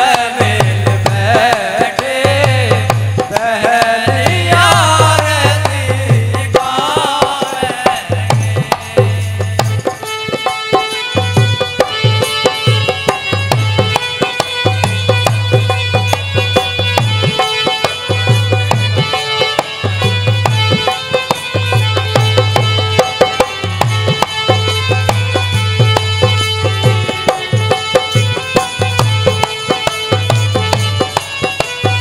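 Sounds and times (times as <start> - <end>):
hand drum rhythm: 0.0 - 32.0
harmonium notes: 0.0 - 32.0.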